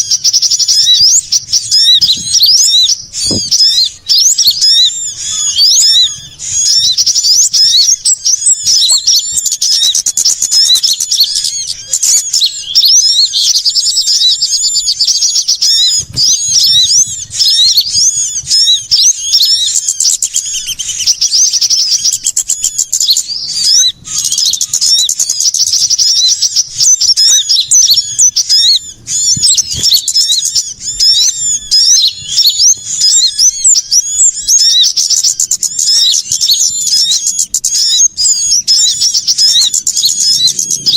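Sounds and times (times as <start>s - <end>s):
small birds chattering: 0.0s - 40.9s.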